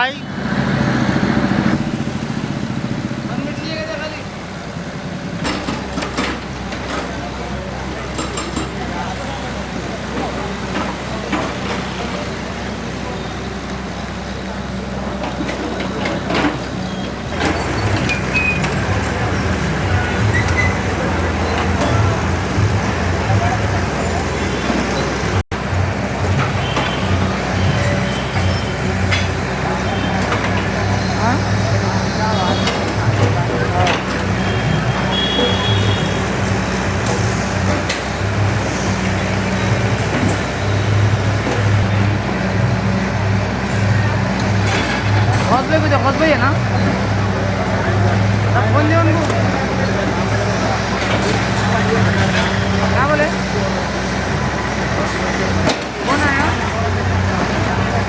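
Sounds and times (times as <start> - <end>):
heavy vehicle engine rumbling: 0.0 - 58.0
street traffic: 0.0 - 58.0.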